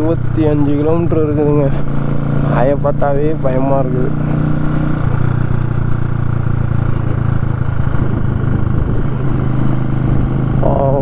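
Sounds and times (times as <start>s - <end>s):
motorcycle engine droning: 0.0s - 11.0s
road and wind noise: 0.0s - 11.0s.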